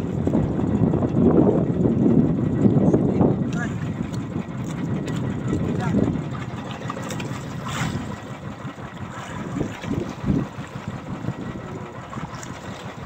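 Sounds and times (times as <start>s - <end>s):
water splashing against boat: 0.0s - 13.0s
wind buffeting microphone: 0.0s - 13.0s.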